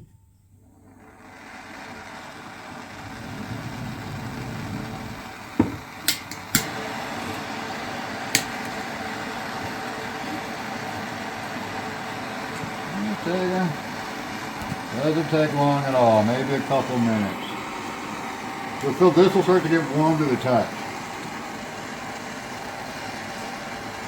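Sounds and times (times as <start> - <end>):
heat gun blowing: 0.7 - 24.0.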